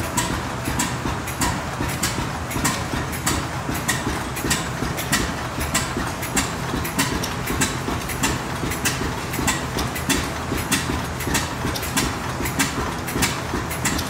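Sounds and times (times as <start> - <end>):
single-cylinder gas engine running: 0.0 - 14.0.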